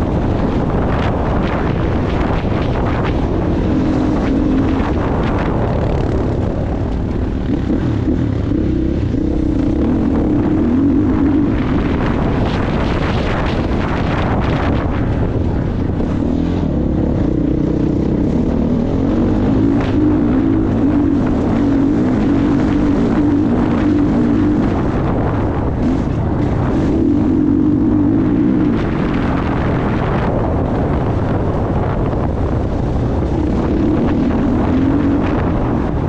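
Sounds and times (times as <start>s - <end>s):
dirt bike engine revving: 0.1s - 30.9s.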